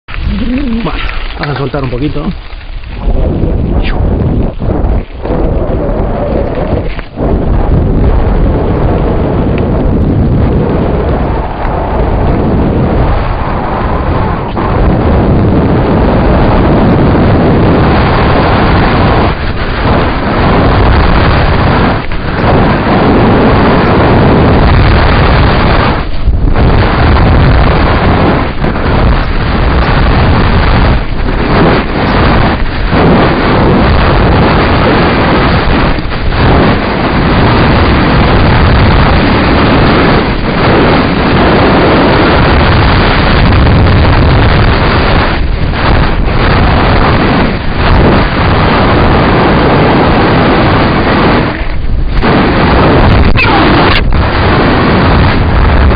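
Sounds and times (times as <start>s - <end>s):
wind buffeting microphone: 0.0s - 55.9s
mountain bike on dirt track: 0.1s - 55.9s.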